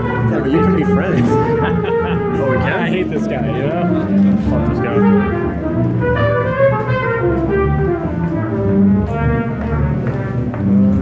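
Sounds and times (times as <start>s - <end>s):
live band music: 0.0s - 11.0s
low steady bass line: 0.0s - 11.0s.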